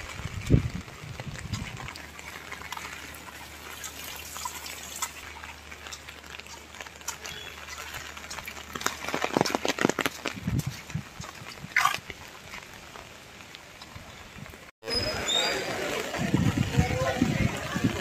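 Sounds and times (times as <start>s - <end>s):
rain and running water: 0.0s - 18.0s.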